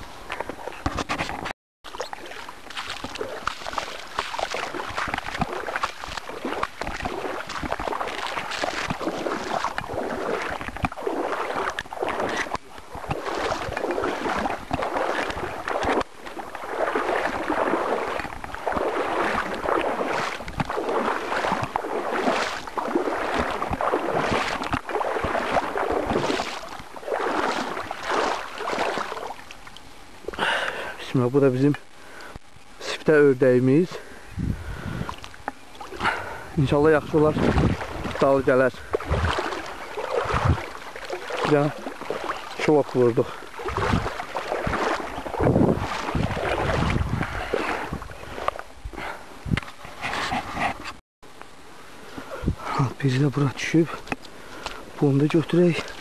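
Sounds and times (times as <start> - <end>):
water sloshing and splashing: 0.0 - 32.3, 33.8 - 51.0, 52.1 - 56.0.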